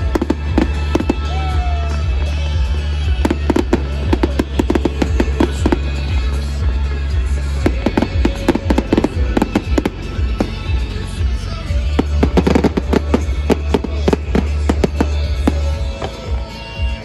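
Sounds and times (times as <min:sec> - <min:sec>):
fireworks bangs and crackles: 0:00.0 - 0:17.0
loud music with bass: 0:00.0 - 0:17.0.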